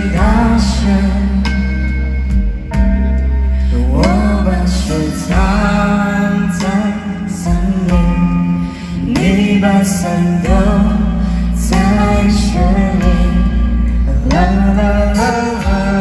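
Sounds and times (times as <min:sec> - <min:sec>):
lead singer: 0:00.0 - 0:16.0
rock band playing live: 0:00.0 - 0:16.0.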